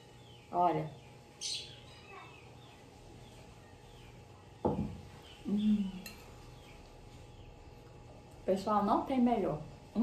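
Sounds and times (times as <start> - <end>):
faint birds chirping: 0.0 - 10.0.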